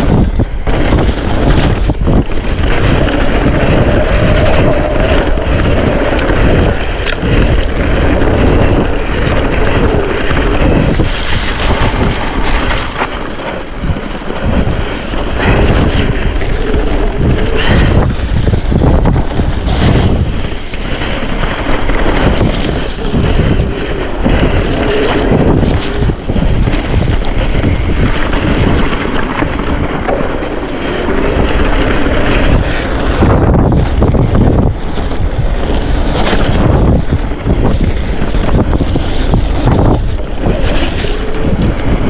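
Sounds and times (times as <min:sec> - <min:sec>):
bike knocks and rattles: 0:00.0 - 0:42.0
bike tyres rolling: 0:00.0 - 0:42.0
wind buffeting microphone: 0:00.0 - 0:42.0.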